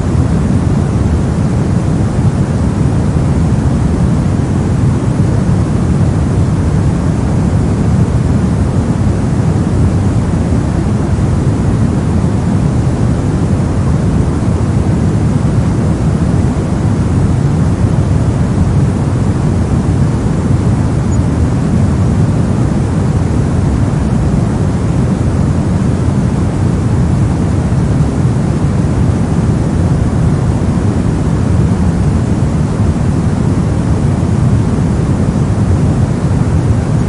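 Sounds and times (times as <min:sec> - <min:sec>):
brown noise hiss: 0:00.0 - 0:37.0.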